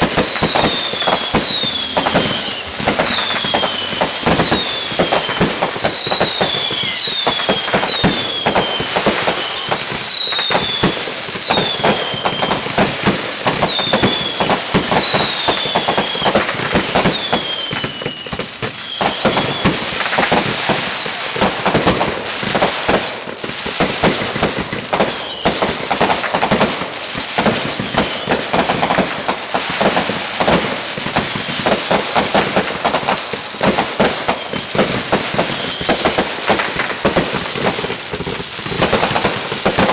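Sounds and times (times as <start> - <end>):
firework whistles falling in pitch: 0.0 - 39.9
fireworks popping and crackling: 0.0 - 39.9.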